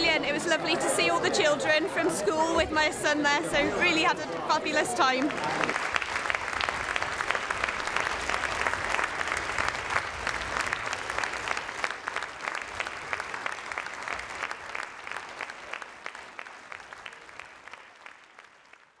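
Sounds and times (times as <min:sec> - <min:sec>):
audience applauding: 0:03.6 - 0:19.0.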